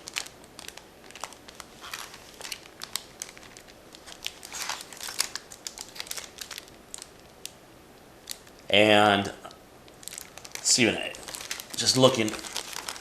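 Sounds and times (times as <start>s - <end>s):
plastic wrappers crinkling: 0.0s - 7.6s, 8.2s - 8.7s, 9.9s - 13.0s.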